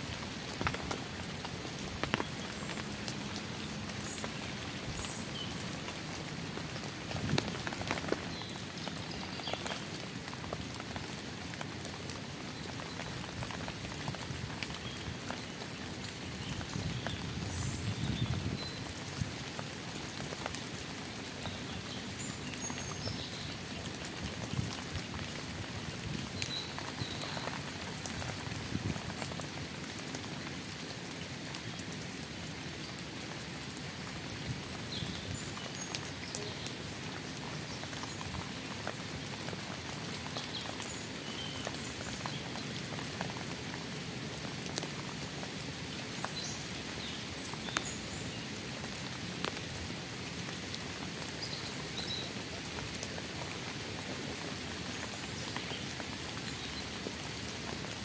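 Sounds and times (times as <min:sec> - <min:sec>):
raindrops ticking close by: 0:00.0 - 0:58.0
steady rain falling: 0:00.0 - 0:58.0.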